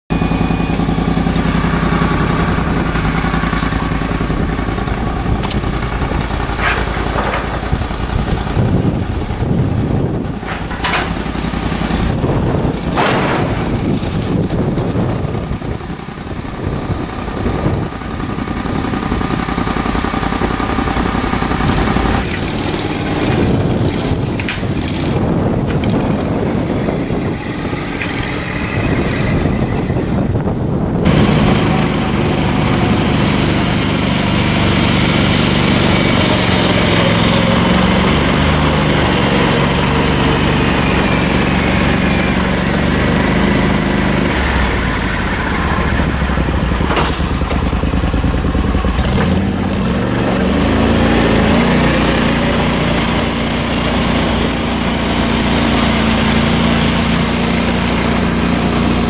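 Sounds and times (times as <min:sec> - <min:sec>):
engine running at steady throttle: 0:00.1 - 0:59.0.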